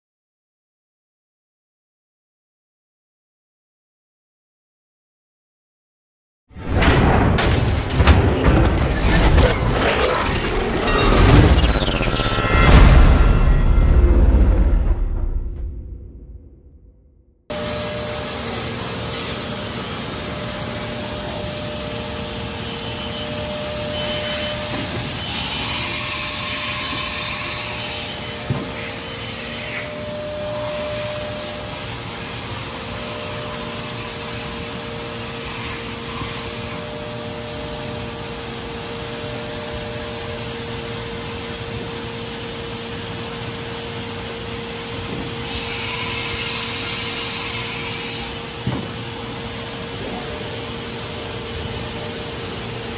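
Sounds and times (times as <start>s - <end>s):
machinery droning: 6.6s - 52.9s.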